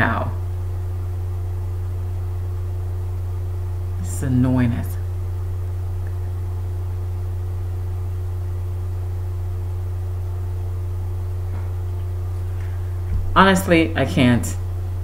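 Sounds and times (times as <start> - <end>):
low-pitched hum: 0.0 - 15.0.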